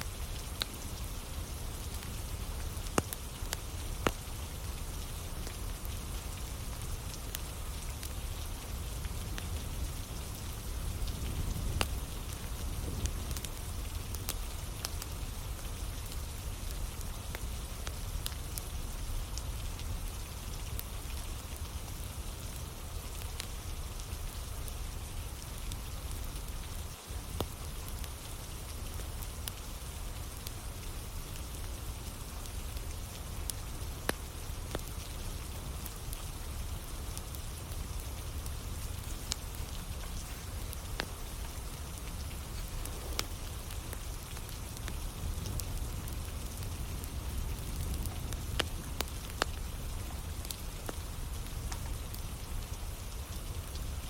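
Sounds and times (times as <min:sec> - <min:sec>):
campfire crackling and popping: 0:00.0 - 0:54.0
steady rain falling: 0:00.0 - 0:54.0.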